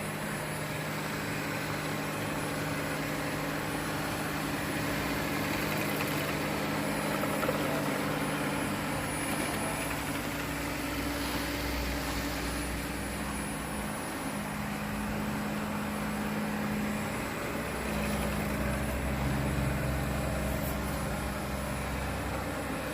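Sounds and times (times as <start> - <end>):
robot vacuum whirring: 2.8 - 21.8.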